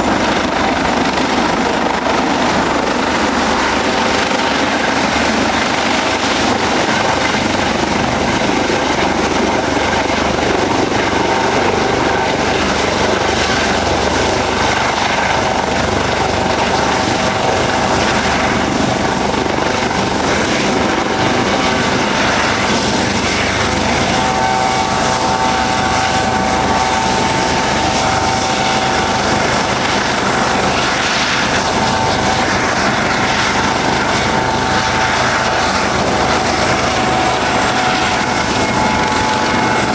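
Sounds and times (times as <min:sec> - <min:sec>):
helicopter rotor and engine: 0:00.0 - 0:39.9
helicopter whine: 0:00.0 - 0:39.9.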